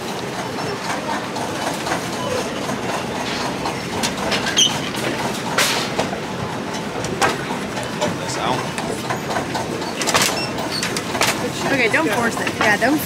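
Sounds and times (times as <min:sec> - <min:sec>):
conveyor mechanical rumble: 0:00.0 - 0:13.0.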